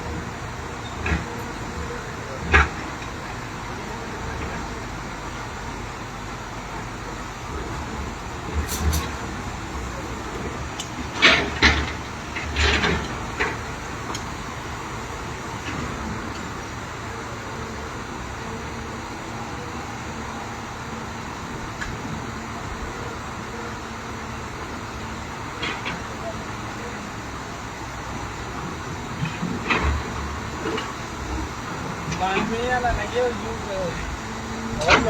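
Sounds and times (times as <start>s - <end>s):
heavy construction machinery running: 0.0s - 35.0s.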